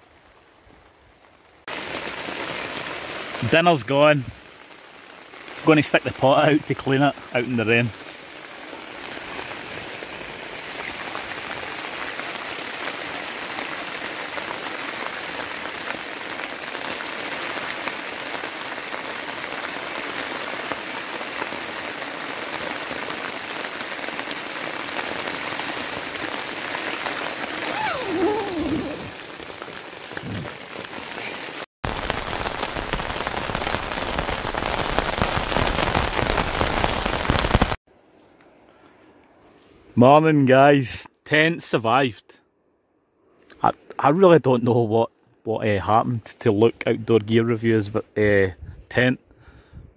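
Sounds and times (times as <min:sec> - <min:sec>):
rain falling on a tent: 0:00.0 - 0:37.9, 0:43.4 - 0:49.2.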